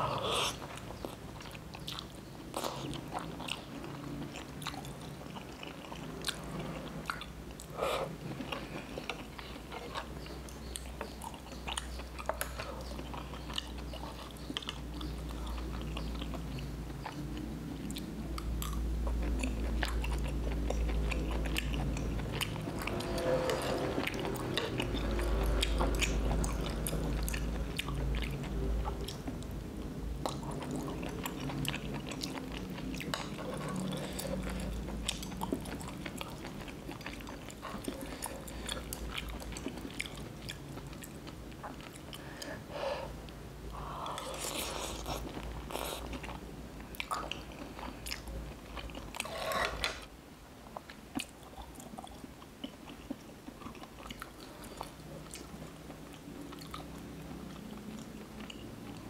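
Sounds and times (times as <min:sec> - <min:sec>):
low steady hum: 0:00.0 - 0:59.0
person chewing food: 0:00.0 - 0:59.0.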